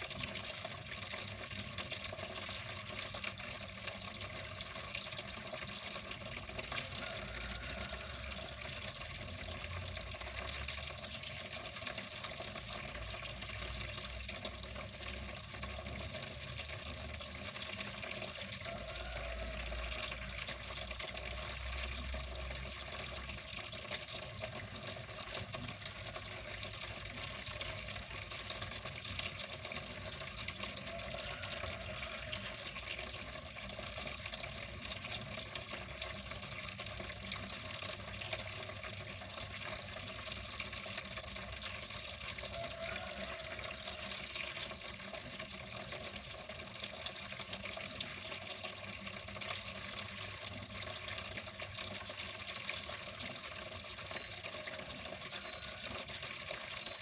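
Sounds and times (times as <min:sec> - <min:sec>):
water running and splashing: 0:00.0 - 0:57.0.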